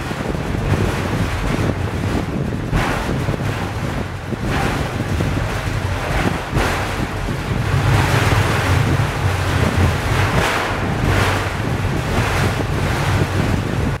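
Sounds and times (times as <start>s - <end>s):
funicular car rumbling down track: 0.0s - 14.0s.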